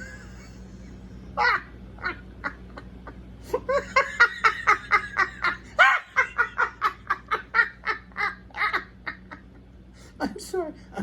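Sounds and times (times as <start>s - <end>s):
man laughing: 0.0s - 9.6s.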